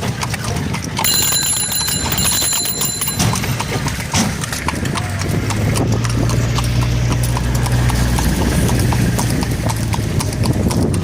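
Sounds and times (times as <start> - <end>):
horse hooves clip-clopping on pavement: 0.0 - 11.0.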